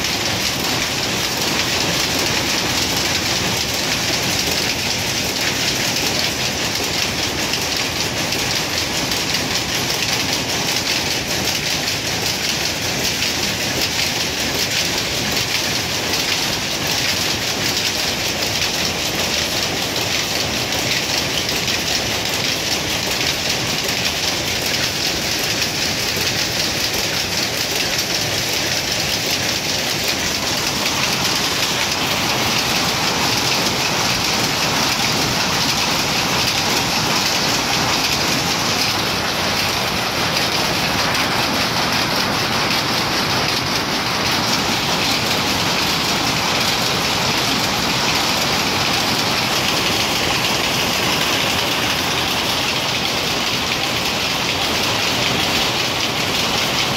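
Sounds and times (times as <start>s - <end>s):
power looms clattering: 0.0s - 56.9s.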